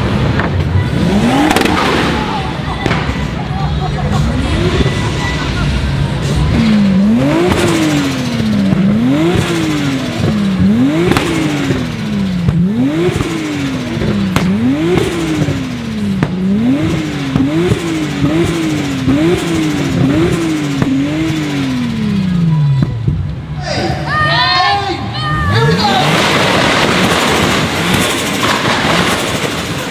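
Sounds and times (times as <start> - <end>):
sports car engine revving: 0.0 - 23.6, 25.2 - 29.9.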